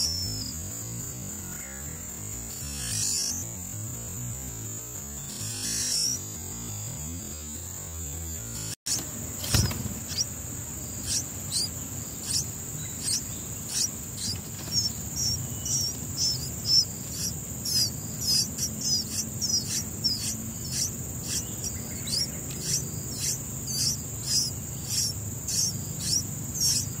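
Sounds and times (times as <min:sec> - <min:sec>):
high-pitched insect drone: 0:00.0 - 0:27.0
nestlings begging with high cheeps: 0:00.0 - 0:27.0.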